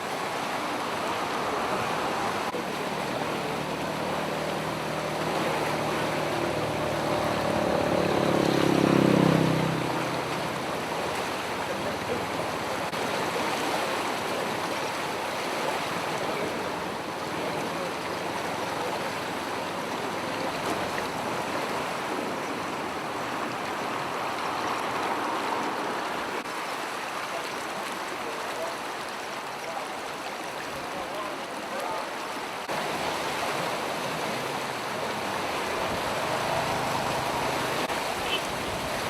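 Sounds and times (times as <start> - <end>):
floodwater rushing: 0.0 - 39.0.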